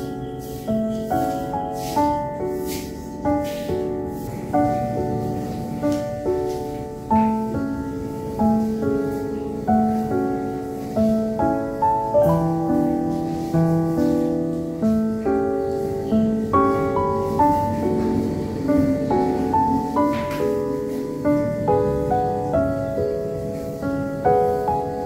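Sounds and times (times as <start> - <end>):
gentle piano-like instrumental music: 0.0 - 25.0.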